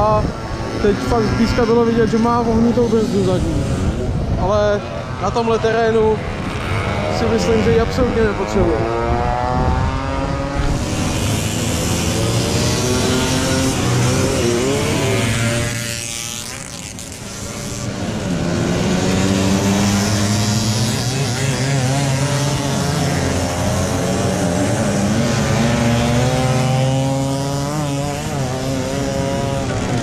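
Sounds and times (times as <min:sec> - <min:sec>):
motorcycles revving past: 0:00.0 - 0:30.0.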